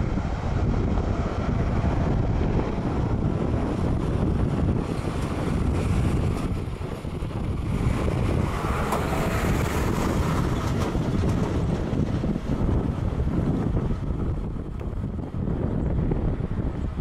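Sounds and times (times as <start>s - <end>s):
jet engines roaring: 0.0s - 17.0s
wind buffeting microphone: 0.0s - 17.0s.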